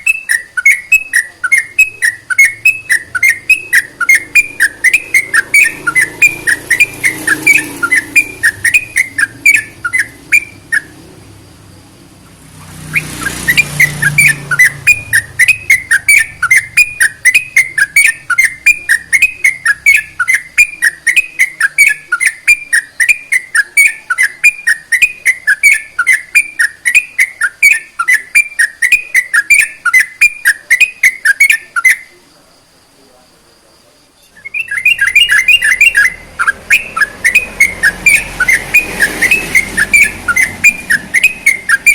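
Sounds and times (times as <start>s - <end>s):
bulbul singing whistled notes: 0.0s - 11.8s, 12.7s - 32.3s, 34.2s - 41.9s.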